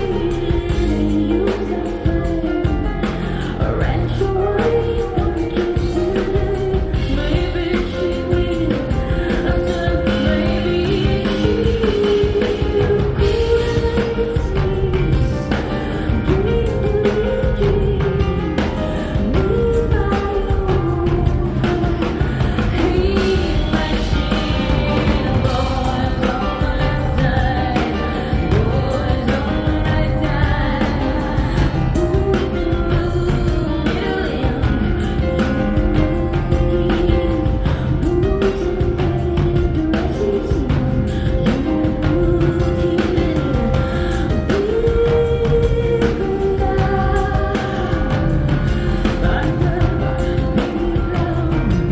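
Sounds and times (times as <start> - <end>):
bass: 0.0 - 51.9
keyboards: 0.0 - 51.9
rock band playing: 0.0 - 51.9
steady drum beat: 0.0 - 51.9
woman singing: 0.0 - 51.9.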